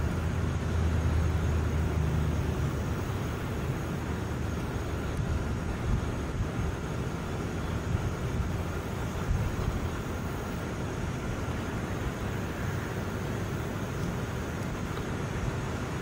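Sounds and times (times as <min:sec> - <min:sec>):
faint hiss: 0:00.0 - 0:16.0
low outdoor rumble: 0:00.0 - 0:16.0.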